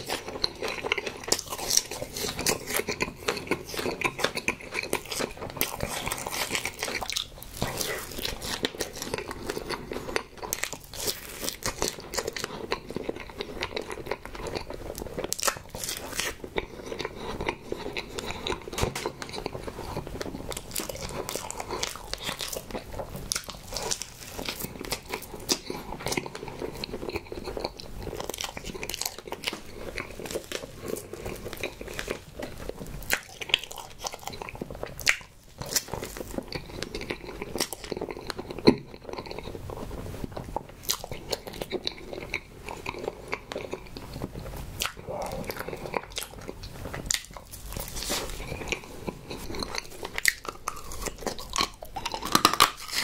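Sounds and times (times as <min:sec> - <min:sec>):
chewing soft cake: 0:00.0 - 0:53.0.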